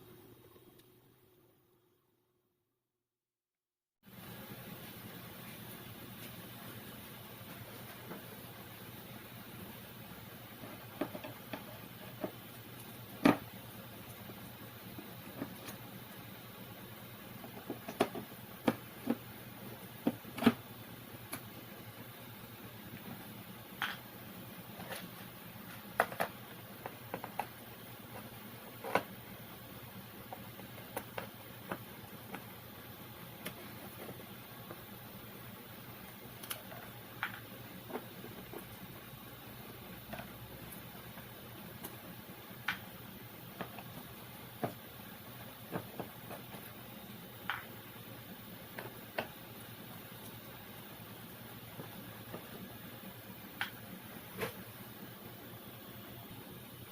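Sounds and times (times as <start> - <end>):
low background hum: 4.0 - 56.9.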